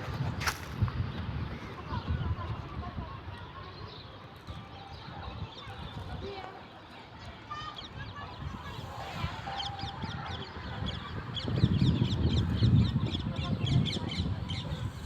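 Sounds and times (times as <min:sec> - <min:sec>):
flock of birds chirping: 0:00.1 - 0:15.0.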